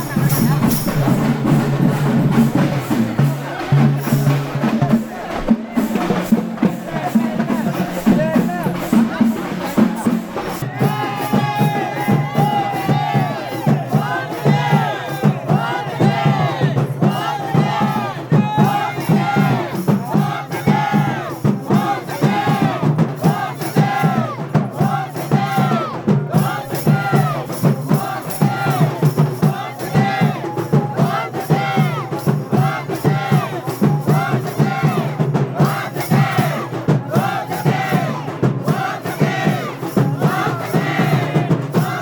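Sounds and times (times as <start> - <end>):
crowd shouting and chanting: 0.0 - 42.0
rhythmic percussion and music: 0.0 - 42.0.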